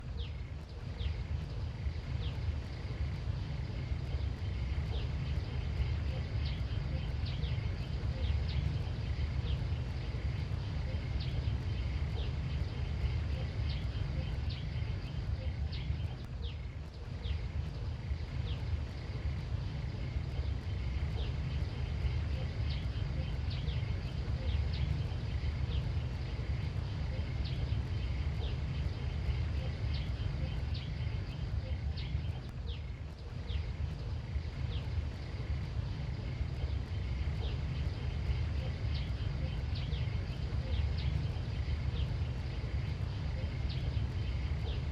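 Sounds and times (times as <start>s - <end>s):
small birds downward chirps: 0.0s - 44.9s
steady low rumble: 0.0s - 44.9s.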